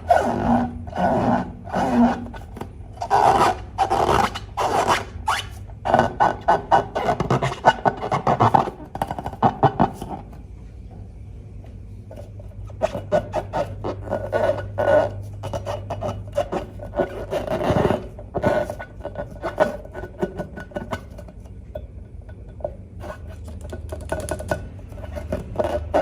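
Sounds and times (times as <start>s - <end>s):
slime squishing and scraping: 0.0s - 10.4s, 12.1s - 21.8s, 22.6s - 26.0s
faint low hum: 0.0s - 26.0s.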